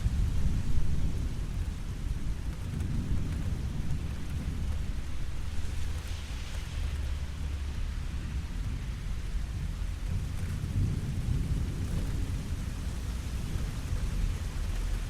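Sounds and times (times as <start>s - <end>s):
deep low rumble: 0.0s - 15.0s
steady rain hiss: 0.0s - 15.0s.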